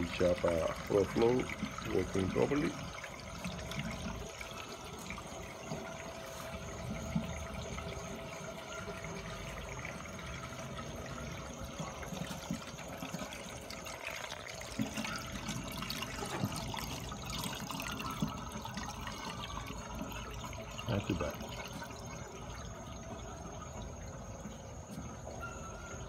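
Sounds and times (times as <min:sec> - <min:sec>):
water running through drain plumbing: 0:00.0 - 0:26.0.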